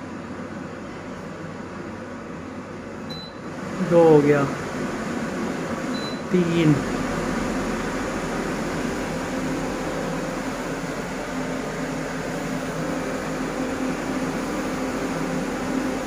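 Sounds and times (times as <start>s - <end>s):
kitchen hood blower air rush: 0.0s - 16.0s.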